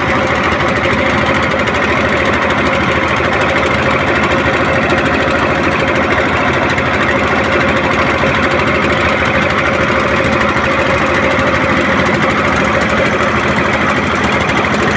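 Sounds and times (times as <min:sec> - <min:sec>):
small engine running: 0:00.0 - 0:14.9.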